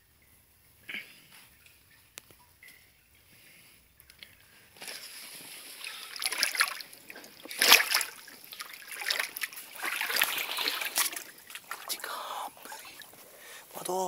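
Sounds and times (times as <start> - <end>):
shallow water splashing: 1.2 - 13.8.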